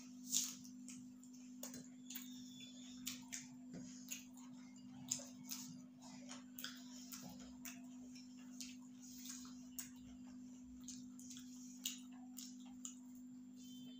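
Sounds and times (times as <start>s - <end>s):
fingers and food on steel plates: 0.0s - 13.9s
people chewing food: 0.0s - 13.9s
steady low hum: 0.0s - 13.9s.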